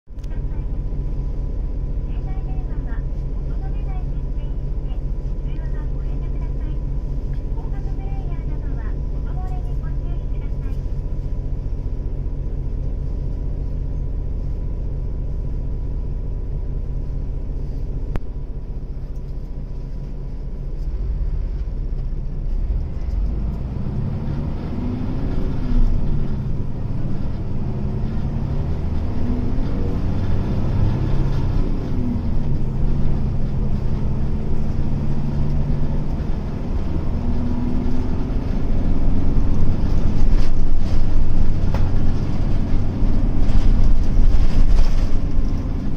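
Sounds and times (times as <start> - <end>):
bus diesel engine: 0.0 - 45.9.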